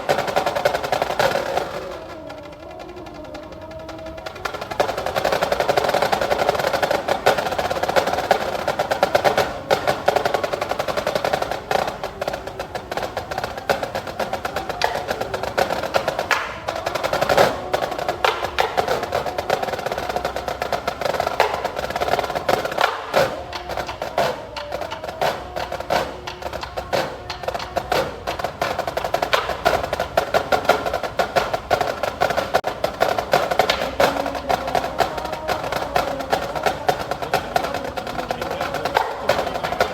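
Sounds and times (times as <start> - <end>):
snare drum strokes and rolls: 0.0 - 39.9
wood block strokes: 0.0 - 39.9.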